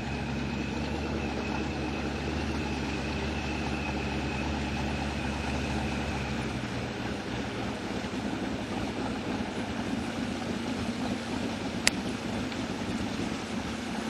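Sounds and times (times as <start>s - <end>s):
boat engine droning: 0.0s - 14.0s
hull rushing through water: 0.0s - 14.0s.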